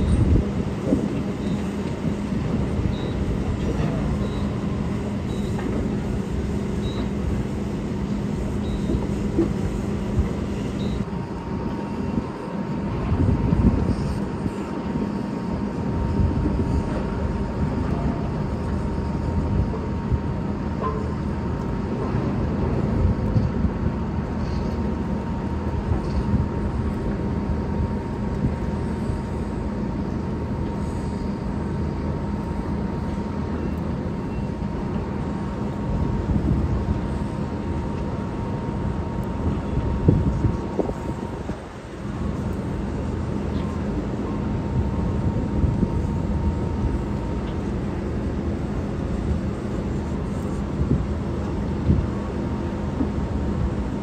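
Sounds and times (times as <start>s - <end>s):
diesel machinery rumble: 0.0s - 54.0s.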